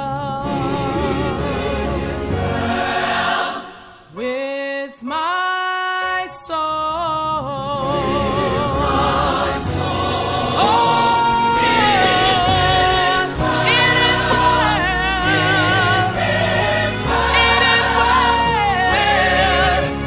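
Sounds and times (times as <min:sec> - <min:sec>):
gospel choir singing: 0:00.0 - 0:04.8, 0:06.0 - 0:20.0.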